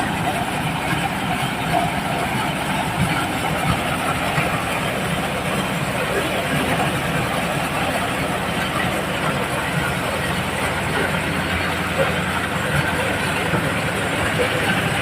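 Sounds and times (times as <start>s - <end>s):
corn sheller running: 0.0s - 15.0s.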